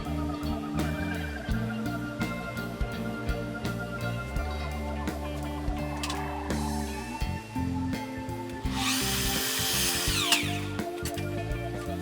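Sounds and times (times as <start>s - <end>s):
held bass notes: 0.0s - 12.0s
steady drum beat: 0.0s - 12.0s.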